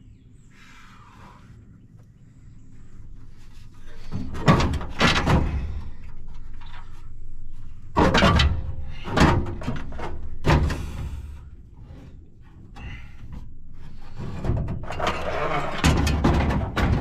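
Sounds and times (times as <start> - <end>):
metal clunks and scrapes: 3.2 - 17.0.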